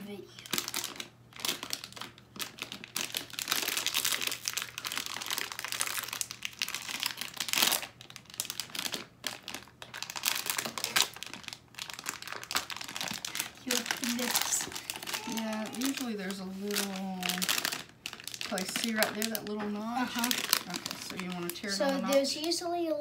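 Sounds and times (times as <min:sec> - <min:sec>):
foil wrapper crinkling: 0:00.3 - 0:22.9.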